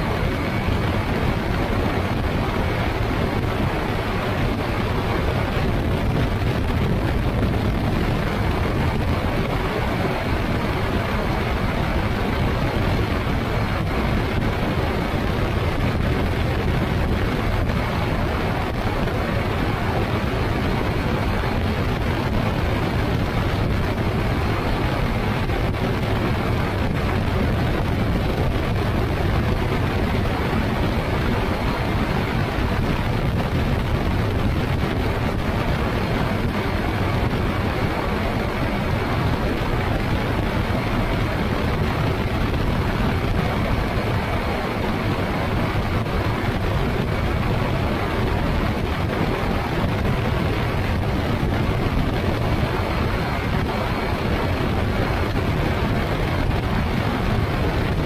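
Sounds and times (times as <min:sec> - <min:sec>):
engine and propeller running: 0:00.0 - 0:58.0
wind noise on microphone: 0:00.0 - 0:58.0.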